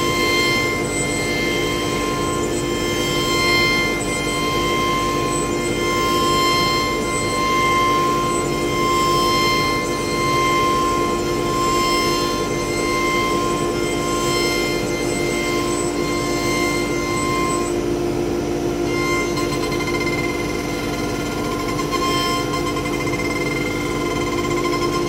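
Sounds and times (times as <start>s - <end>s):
low machine hum: 0.0s - 25.0s
router spindle high whine: 0.0s - 25.0s.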